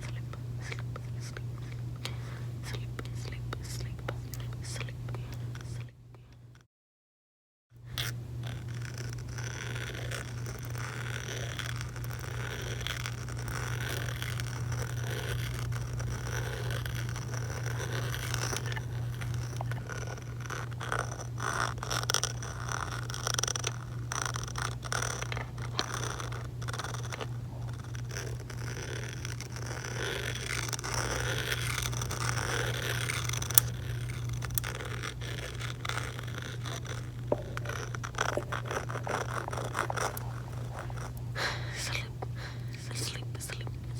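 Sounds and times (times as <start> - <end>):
steady low hum: 0.0 - 6.6, 7.8 - 43.9
clicks crackles and scrapes: 7.9 - 43.9.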